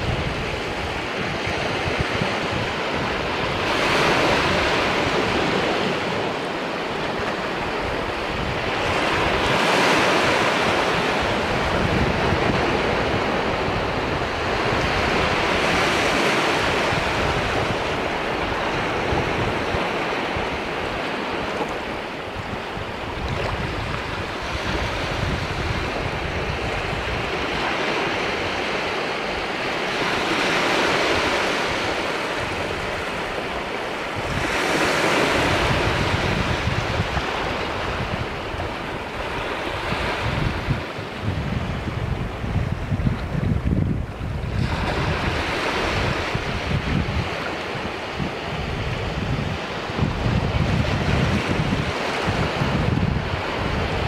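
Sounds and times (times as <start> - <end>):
surf washing over rocks: 0.0 - 54.0
wind rumbling on microphone: 0.0 - 54.0.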